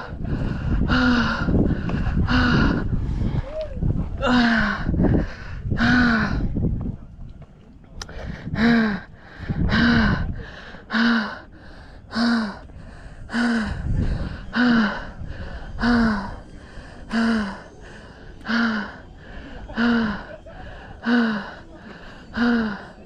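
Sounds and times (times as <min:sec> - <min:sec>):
wind on microphone: 0:00.0 - 0:10.8, 0:11.8 - 0:21.1.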